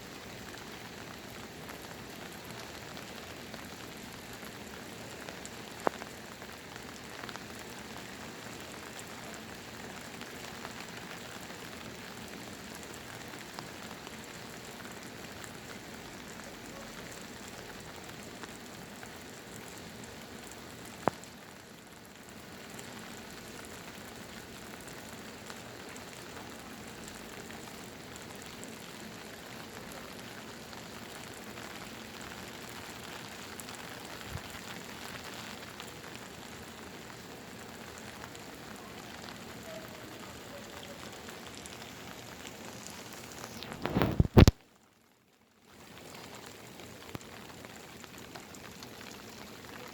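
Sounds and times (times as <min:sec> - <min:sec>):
rain pattering on surfaces: 0:00.0 - 0:49.9.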